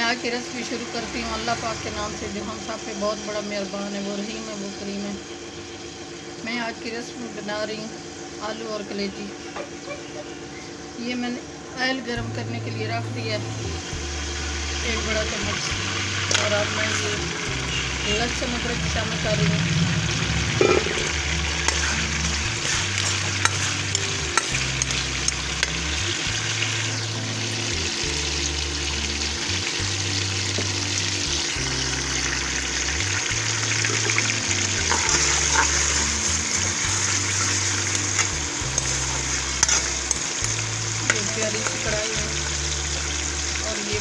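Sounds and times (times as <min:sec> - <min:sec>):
garlic sizzling in hot oil: 0:00.0 - 0:10.3, 0:12.6 - 0:44.0
low background tune: 0:00.0 - 0:44.0.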